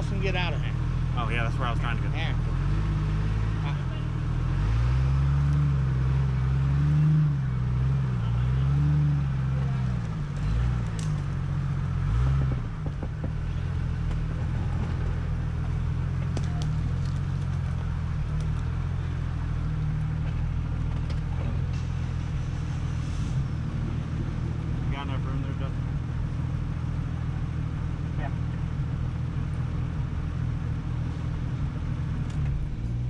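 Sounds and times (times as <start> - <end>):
off-road engine revving: 0.0 - 33.0.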